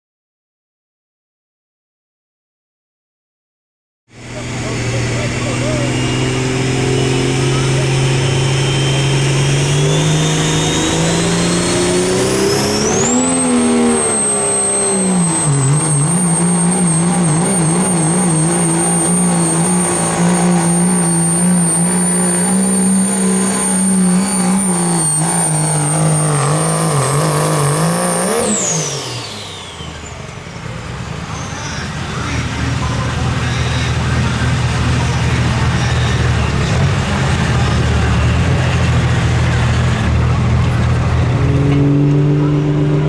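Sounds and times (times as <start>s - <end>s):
engine at full throttle: 4.1s - 43.0s
high engine whine: 4.1s - 43.0s.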